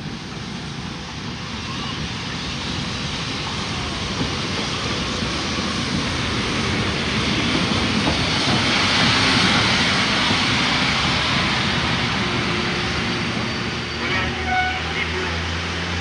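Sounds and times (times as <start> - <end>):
steam train rumble and hiss: 0.0 - 16.0.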